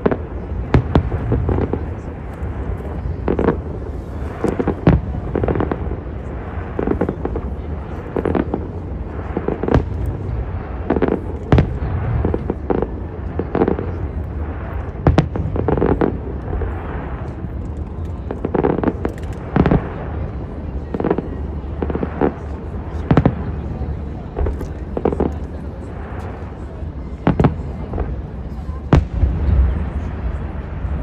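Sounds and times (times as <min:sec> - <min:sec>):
fireworks bursting with sharp bangs: 0:00.0 - 0:31.0.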